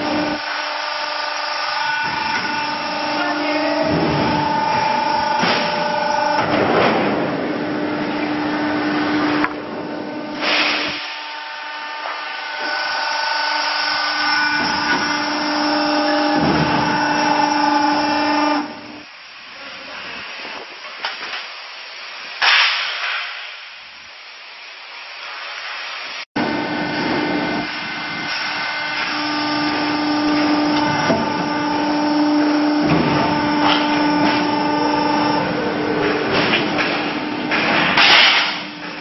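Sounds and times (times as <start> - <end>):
machine hum with held tones: 0.0 - 19.3, 26.4 - 39.0
quieter machinery noise: 0.0 - 21.4, 26.4 - 39.0.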